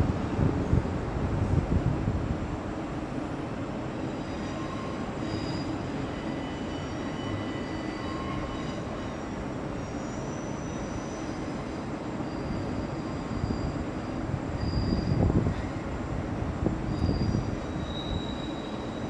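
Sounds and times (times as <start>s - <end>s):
train rumbling over rails: 0.0s - 19.0s.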